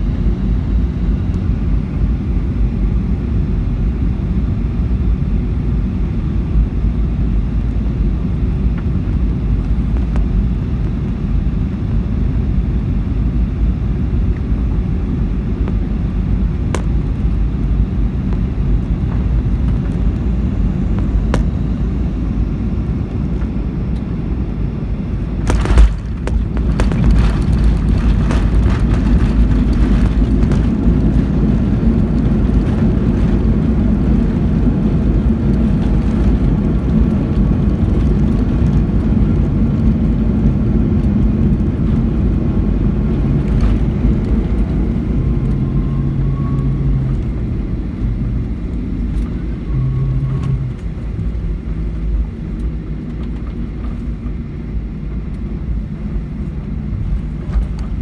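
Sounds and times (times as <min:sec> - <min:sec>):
jet engines and wheels rumbling: 0:00.0 - 0:58.0.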